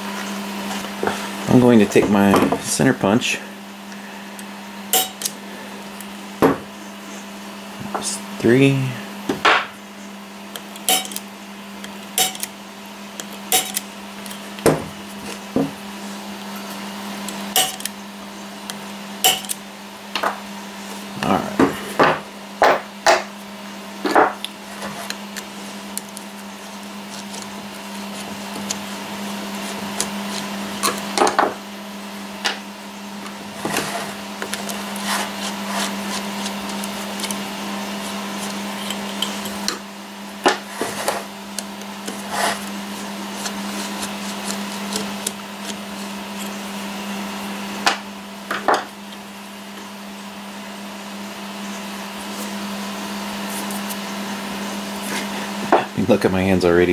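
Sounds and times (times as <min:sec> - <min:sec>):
printer fan humming: 0:00.0 - 0:56.9.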